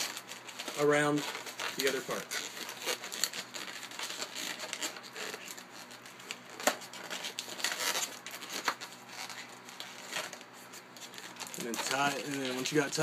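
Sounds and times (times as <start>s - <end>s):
balloons rustling: 0.0s - 13.0s.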